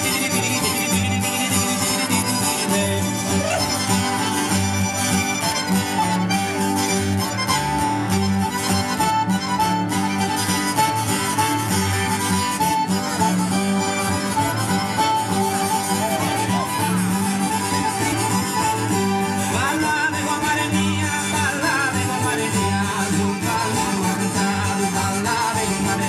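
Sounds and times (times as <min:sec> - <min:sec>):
accordion music with held notes: 0:00.0 - 0:26.0.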